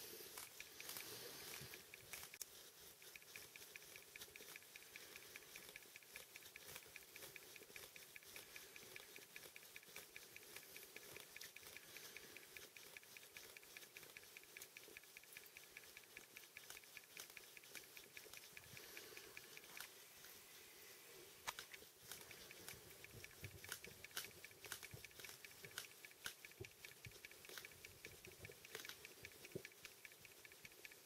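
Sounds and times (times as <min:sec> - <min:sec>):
faint rapid ticking: 0:00.0 - 0:31.0.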